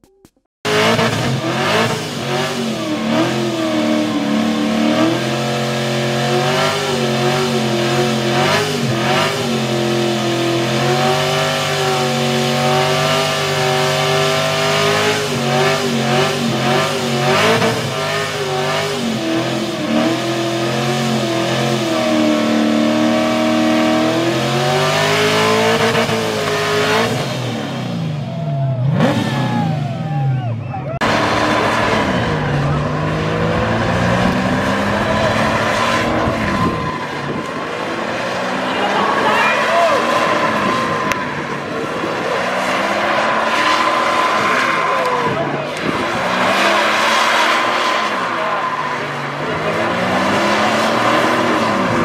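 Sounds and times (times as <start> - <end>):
race car engine revving: 0.6 - 52.0.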